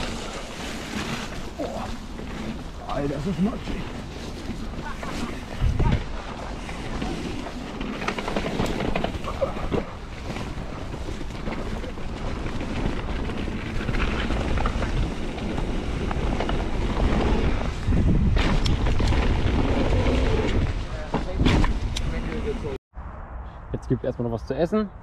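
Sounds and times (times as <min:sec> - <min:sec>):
bike clicks and rattles: 0:00.0 - 0:22.2
tyres rolling on dirt: 0:00.0 - 0:22.7
wind buffeting microphone: 0:00.0 - 0:23.8.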